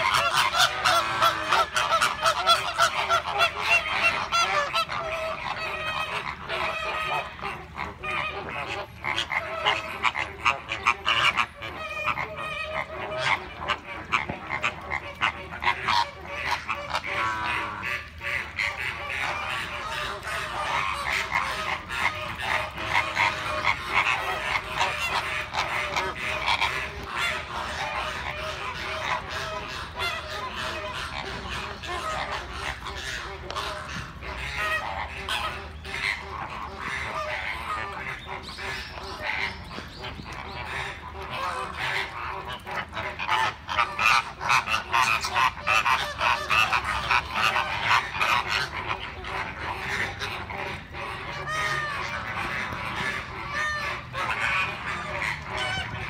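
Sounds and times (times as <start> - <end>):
flamingos calling: 0.0 - 56.0.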